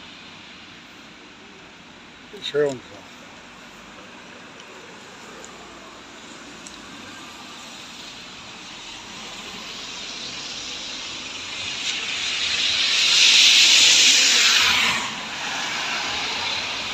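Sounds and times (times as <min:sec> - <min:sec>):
heavy rain hissing: 0:00.1 - 0:16.9.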